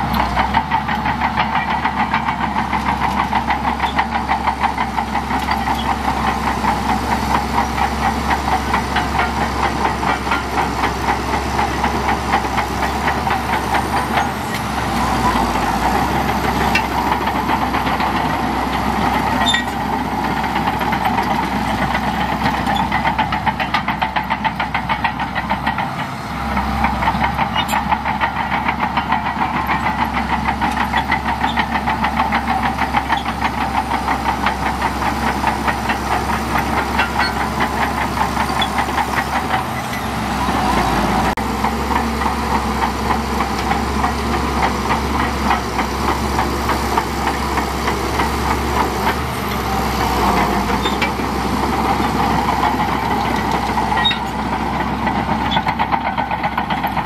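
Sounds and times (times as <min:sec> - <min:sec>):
bulldozer diesel engine pulsing: 0:00.0 - 0:57.0.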